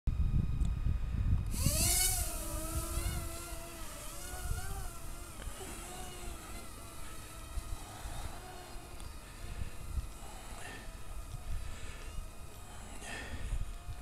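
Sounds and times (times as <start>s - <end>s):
wind buffeting microphone: 0.1s - 14.0s
drone motors whining: 1.4s - 14.0s.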